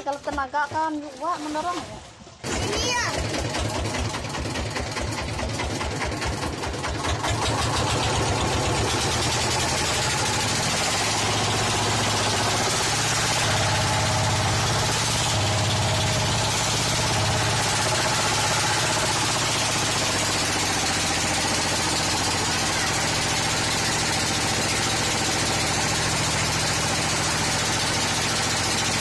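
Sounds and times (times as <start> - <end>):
water rushing along hull: 0.6 - 29.0
boat engine thumping: 1.7 - 29.0.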